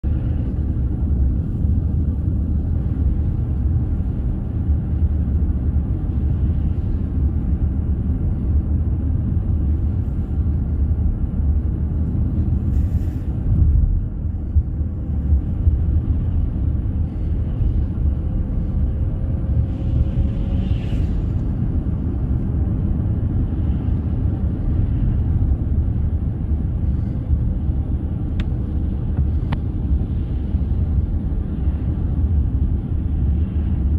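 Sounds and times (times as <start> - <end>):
steady low rumble: 0.0 - 33.9.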